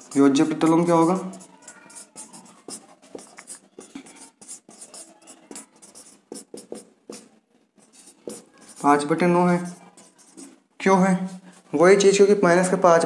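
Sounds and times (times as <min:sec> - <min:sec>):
scratchy handwriting strokes: 0:00.0 - 0:11.8.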